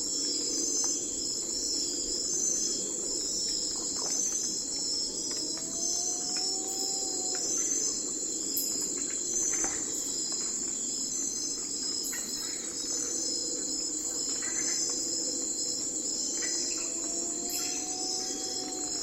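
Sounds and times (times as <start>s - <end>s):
crickets trilling: 0.0s - 19.0s
forest ambience hum: 0.0s - 19.0s.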